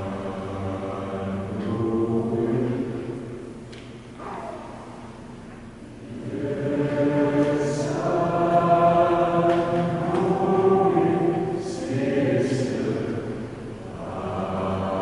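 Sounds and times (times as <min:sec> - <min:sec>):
mixed choir singing chords: 0:00.0 - 0:03.4, 0:05.9 - 0:15.0.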